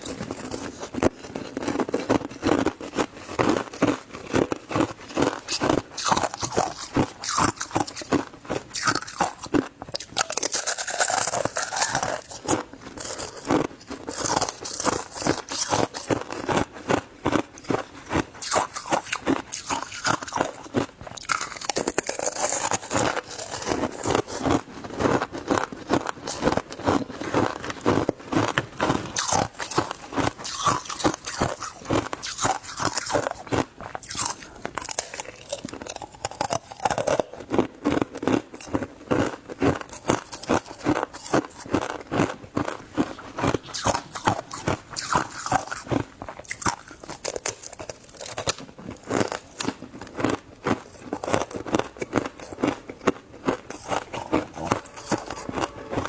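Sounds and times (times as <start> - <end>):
ice being chewed crunching: 0.0 - 56.0.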